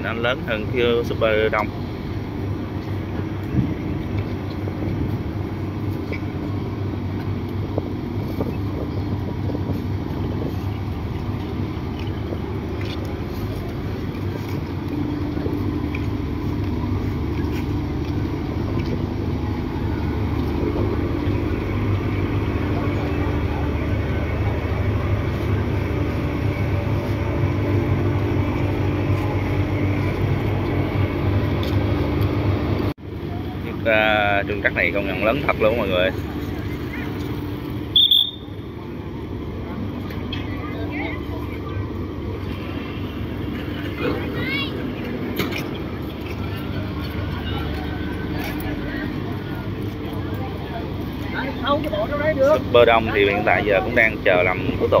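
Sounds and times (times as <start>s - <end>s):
large engine rumbling: 0.0s - 55.0s.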